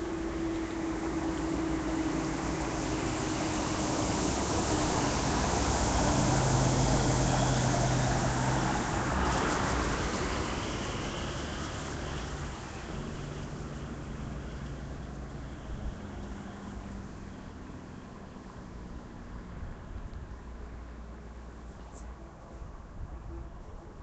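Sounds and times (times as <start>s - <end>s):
traffic on wet road: 0.0s - 22.7s.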